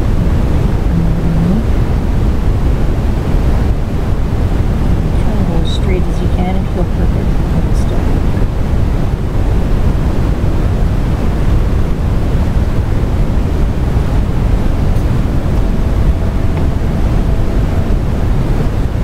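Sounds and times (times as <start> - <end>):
loud low rumbling: 0.0 - 19.0.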